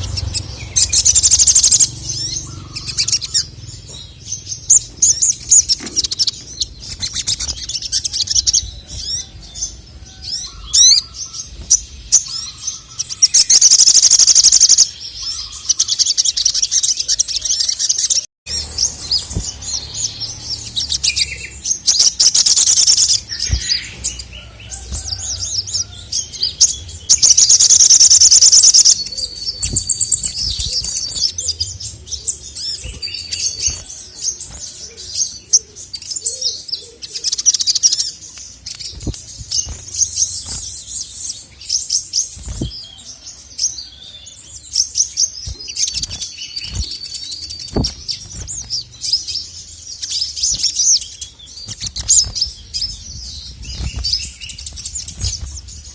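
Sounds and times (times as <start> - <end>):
songbird chirping rapidly: 0.0 - 55.9.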